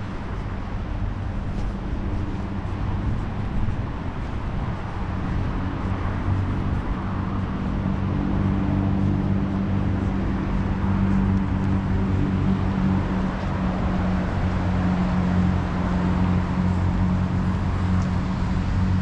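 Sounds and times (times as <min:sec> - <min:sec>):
traffic rush: 0:00.0 - 0:19.0
vehicle engine hum: 0:00.0 - 0:19.0.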